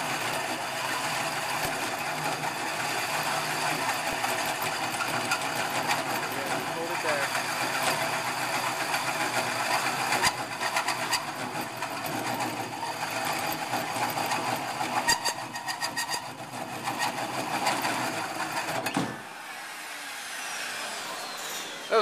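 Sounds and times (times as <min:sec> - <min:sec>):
drill hole saw grinding steel: 0:00.0 - 0:22.0
drill whine: 0:00.0 - 0:22.0.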